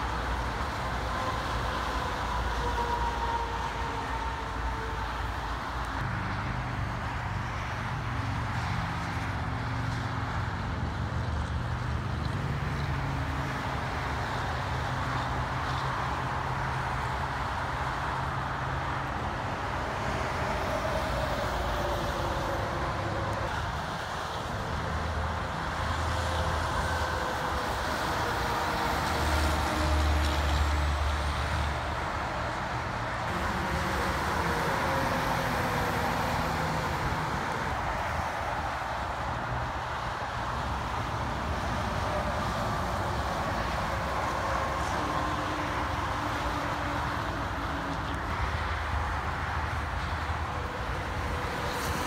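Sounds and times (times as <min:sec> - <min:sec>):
highway traffic passing: 0:00.0 - 0:52.0.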